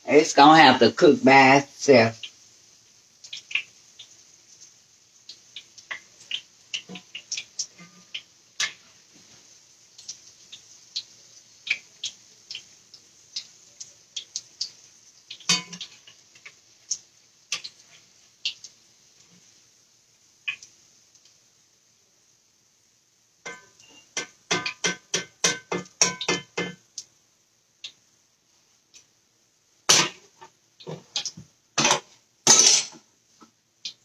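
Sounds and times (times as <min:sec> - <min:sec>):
oil crackling and popping: 0:01.3 - 0:34.0.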